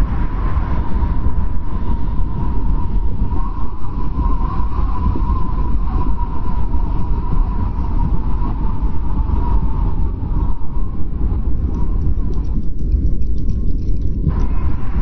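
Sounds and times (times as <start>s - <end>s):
strong wind rumbling: 0.0s - 15.0s
wind whistling: 0.0s - 15.0s.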